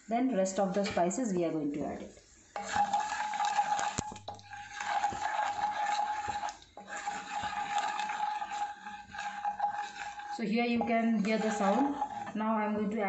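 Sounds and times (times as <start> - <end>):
seeds sizzling in hot oil: 2.0 - 12.4
wooden spatula stirring: 2.1 - 13.0.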